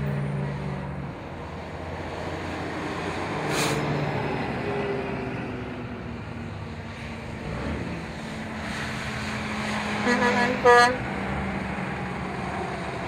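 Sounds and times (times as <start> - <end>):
traffic noise: 0.0 - 13.0
trucks driving past: 0.0 - 13.0.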